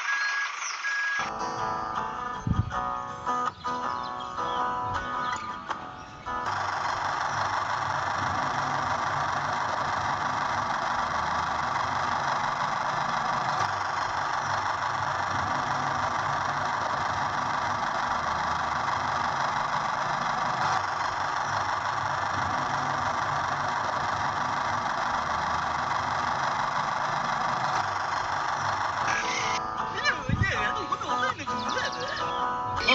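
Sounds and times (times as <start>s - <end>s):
engine running with wavering throb: 0.0s - 32.9s.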